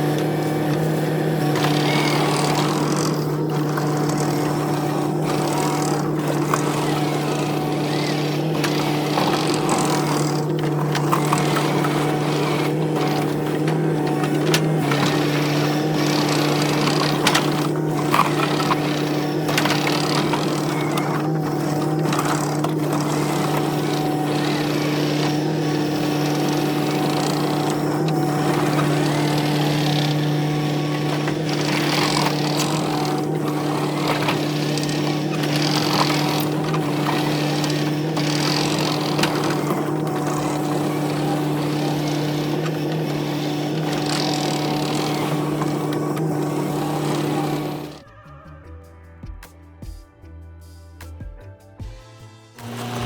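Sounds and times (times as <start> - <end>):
construction machine engine running: 0.0 - 48.0.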